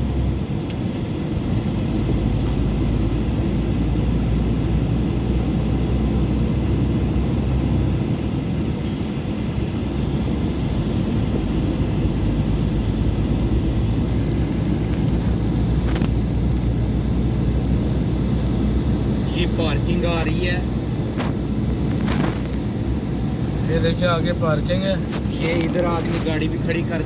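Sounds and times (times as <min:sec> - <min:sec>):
car road and wind noise: 0:00.0 - 0:27.0.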